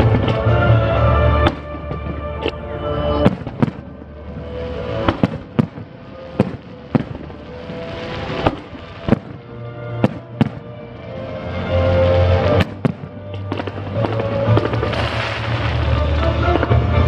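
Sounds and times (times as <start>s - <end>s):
fireworks bangs: 0.0s - 10.8s, 11.7s - 17.0s
music playing: 0.0s - 17.0s.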